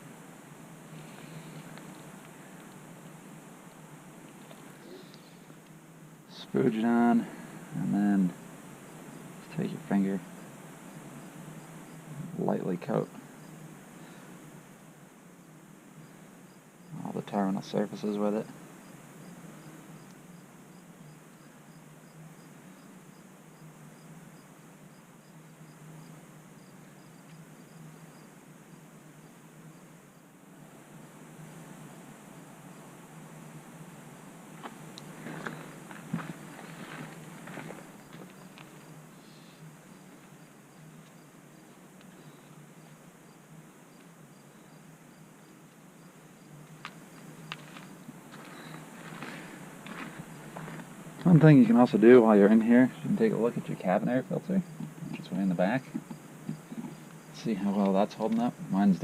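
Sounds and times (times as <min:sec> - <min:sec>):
cricket chirping: 0:00.0 - 0:59.0
faint low hum and hiss: 0:00.0 - 0:59.0.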